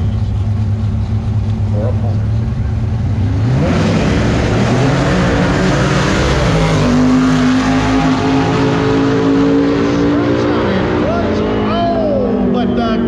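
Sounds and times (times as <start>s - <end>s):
drag car engines at full throttle: 0.0s - 13.0s.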